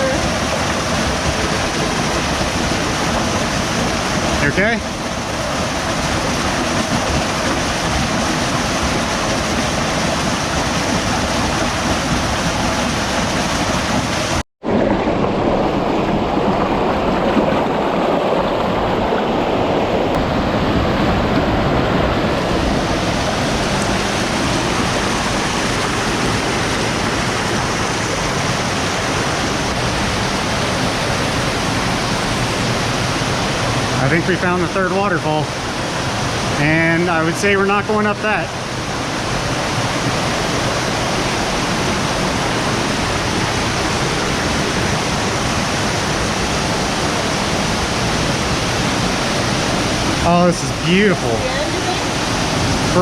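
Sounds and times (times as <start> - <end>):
creek water rushing: 0.0 - 53.0.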